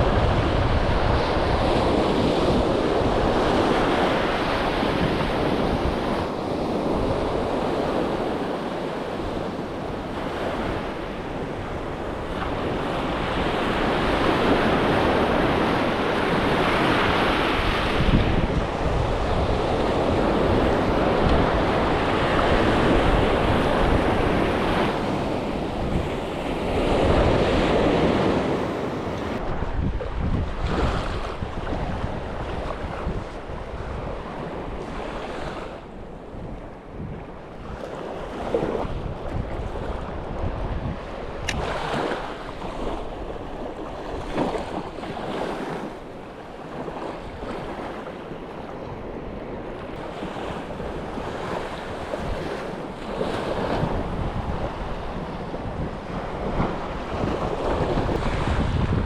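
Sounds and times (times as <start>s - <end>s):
sea surf washing onto beach: 0.0s - 59.0s
wind buffeting microphone: 0.0s - 59.0s.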